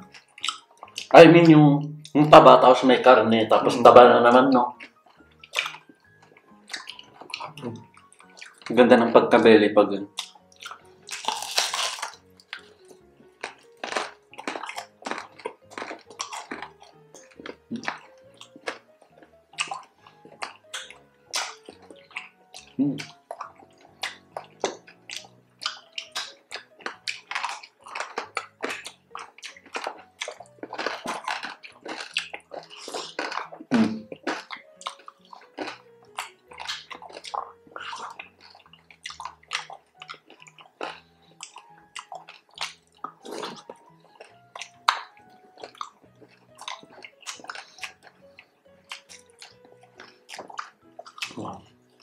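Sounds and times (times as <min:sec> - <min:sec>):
wet mouth sounds: 0:00.0 - 0:01.1, 0:04.7 - 0:08.8, 0:10.1 - 0:52.0
crunchy chewing: 0:00.0 - 0:02.9, 0:04.7 - 0:08.8, 0:10.0 - 0:52.0
faint background music: 0:00.0 - 0:52.0.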